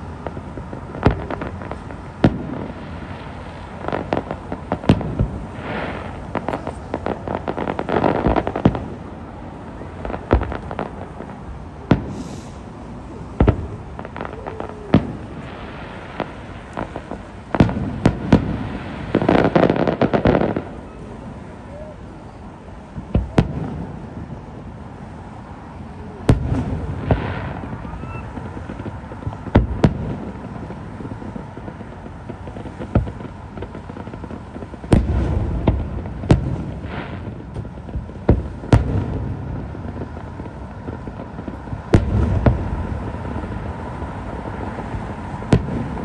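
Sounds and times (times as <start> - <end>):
firework shells booming: 0.0 - 21.2, 22.9 - 24.5, 26.2 - 46.0
dense firework crackling: 0.0 - 46.0.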